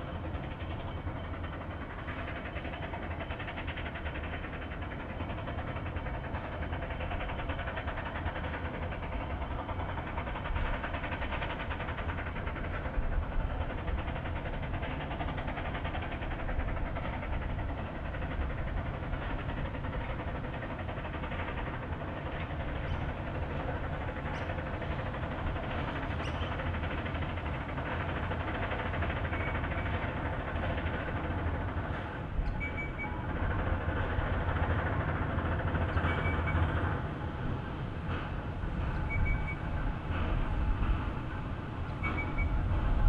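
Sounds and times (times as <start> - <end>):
steam train running: 0.0 - 43.0.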